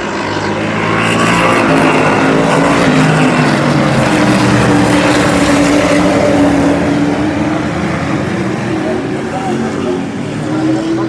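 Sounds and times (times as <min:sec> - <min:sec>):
race truck engines passing: 0:00.0 - 0:11.0.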